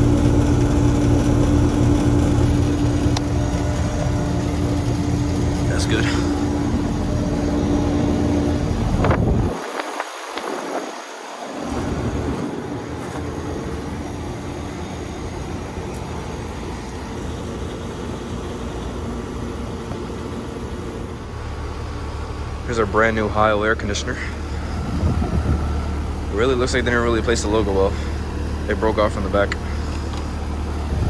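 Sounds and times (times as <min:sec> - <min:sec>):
air conditioner fan whoosh: 0:00.0 - 0:31.0
compressor hum: 0:00.0 - 0:31.0.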